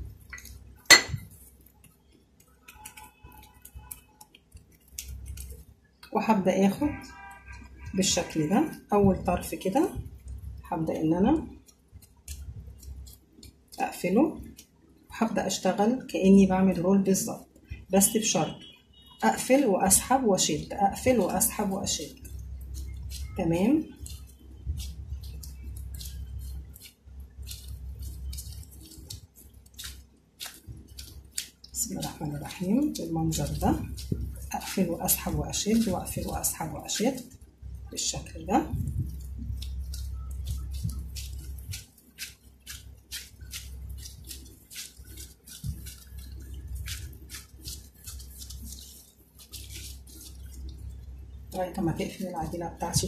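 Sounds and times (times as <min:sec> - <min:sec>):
gloves squishing sticky dough: 0:00.0 - 0:53.0.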